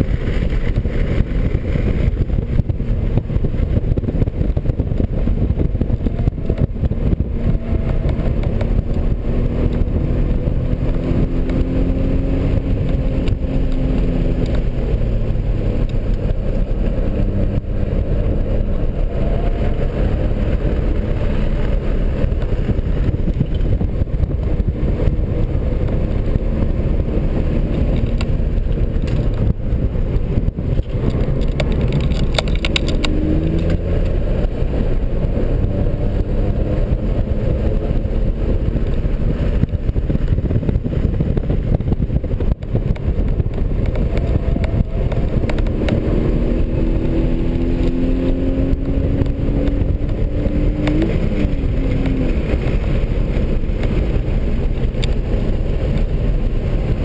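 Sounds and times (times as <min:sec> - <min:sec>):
car engine revving: 0:00.0 - 0:57.0
wind and road noise: 0:00.0 - 0:57.0.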